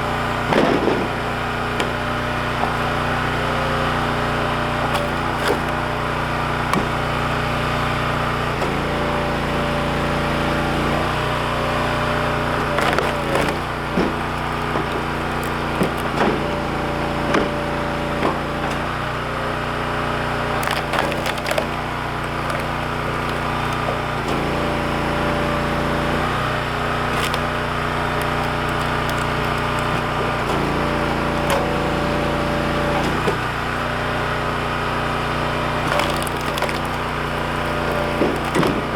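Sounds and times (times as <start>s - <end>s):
log splitter engine running: 0.0s - 38.9s
logs cracking and splintering: 0.3s - 8.9s, 10.7s - 33.9s, 34.8s - 38.9s.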